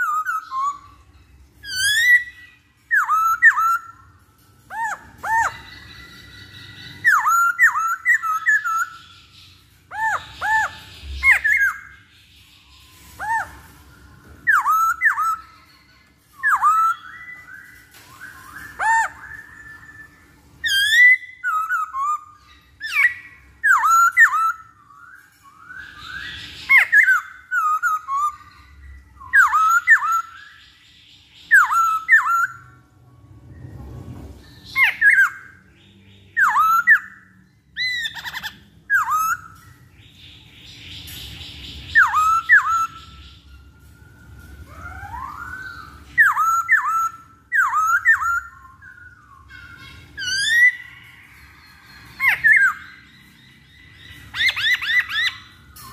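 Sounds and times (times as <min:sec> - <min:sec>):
bird whistled song: 0:00.0 - 0:55.9.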